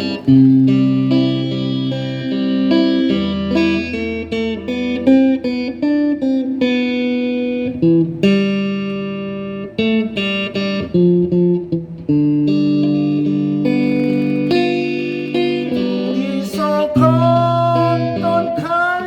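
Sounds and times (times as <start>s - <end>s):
backing accompaniment: 0.0s - 19.0s
guitar playing melody: 0.0s - 19.0s.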